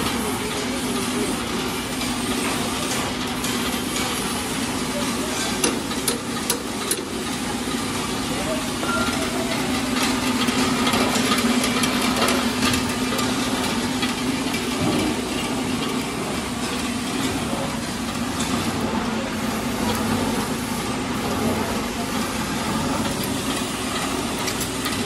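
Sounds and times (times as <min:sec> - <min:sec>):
oil expeller humming: 0:00.0 - 0:25.0.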